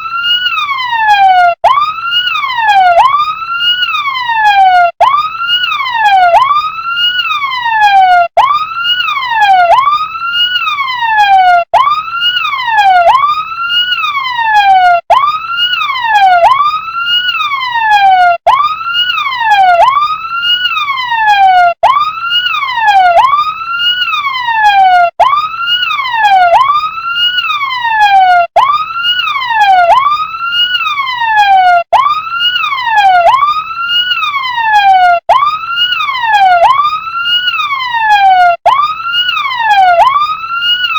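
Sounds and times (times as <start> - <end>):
toy fire truck siren wailing: 0.0 - 40.9.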